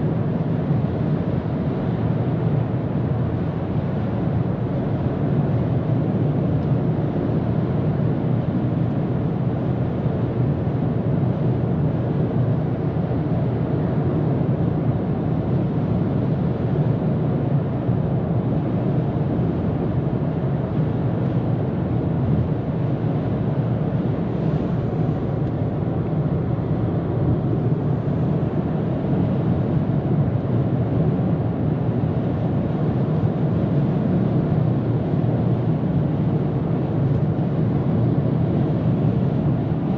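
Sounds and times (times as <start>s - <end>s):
wind noise: 0.0s - 39.9s.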